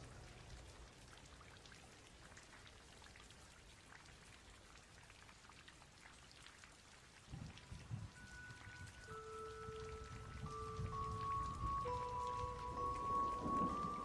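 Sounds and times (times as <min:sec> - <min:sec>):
rain hiss: 0:00.0 - 0:14.0
raindrops ticking: 0:00.0 - 0:14.0.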